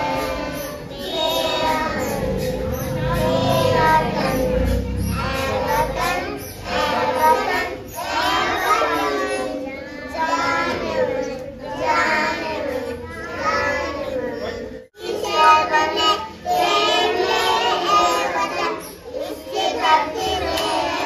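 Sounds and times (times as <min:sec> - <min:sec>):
children singing: 0:00.0 - 0:21.0.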